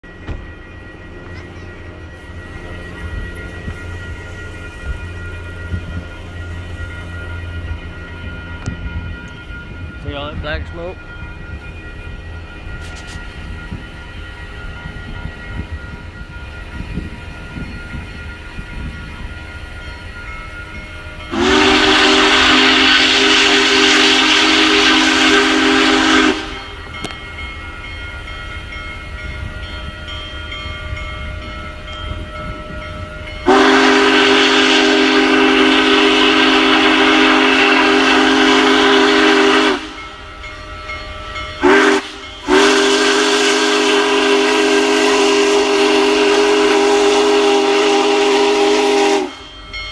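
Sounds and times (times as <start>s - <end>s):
low rumble of train running: 0.0s - 49.9s
steam locomotive chime whistle: 0.0s - 49.9s.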